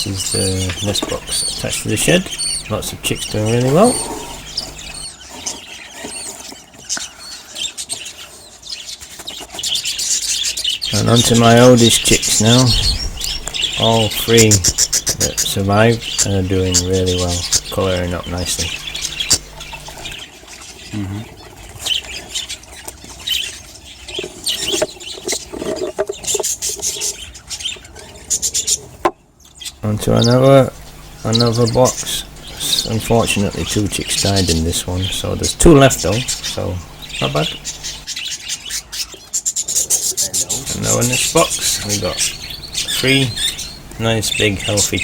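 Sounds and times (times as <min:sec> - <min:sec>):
budgerigar chicks squeaking chirps: 0:00.0 - 0:25.4, 0:26.2 - 0:45.0.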